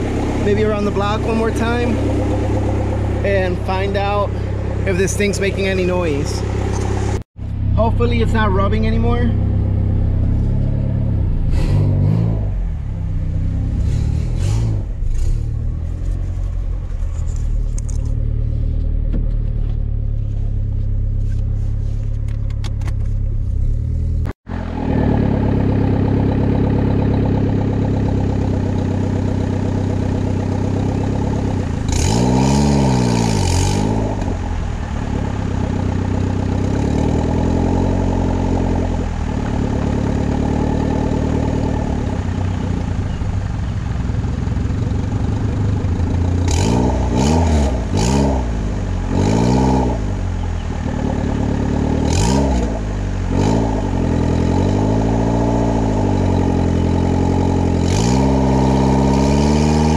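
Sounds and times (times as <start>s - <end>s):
car engine running at low revs: 0.0s - 59.9s.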